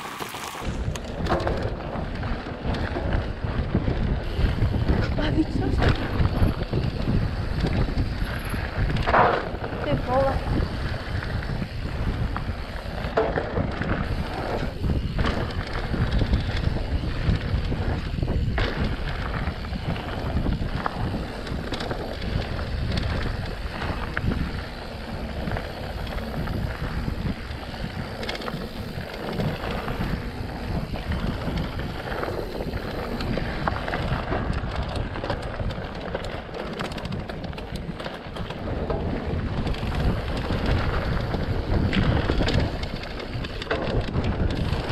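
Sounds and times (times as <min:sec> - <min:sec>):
bike knocking and rattling: 0:00.0 - 0:44.9
bike tyre noise on dirt: 0:00.0 - 0:44.9
wind rushing over microphone: 0:00.0 - 0:44.9.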